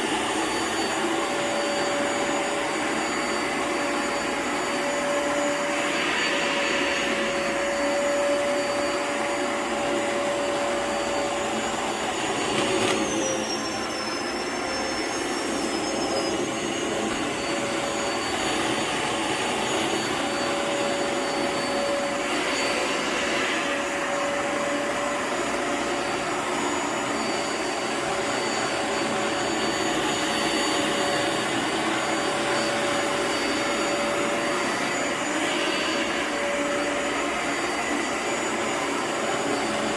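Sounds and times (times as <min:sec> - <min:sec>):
vacuum motor whining: 0:00.0 - 0:39.9.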